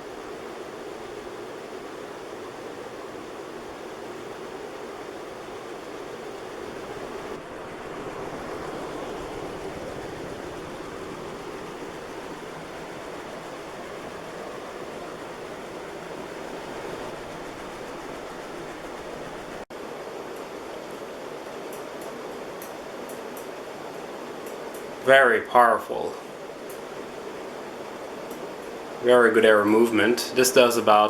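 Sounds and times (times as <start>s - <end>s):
ceiling fan rushing air: 0.0s - 31.0s.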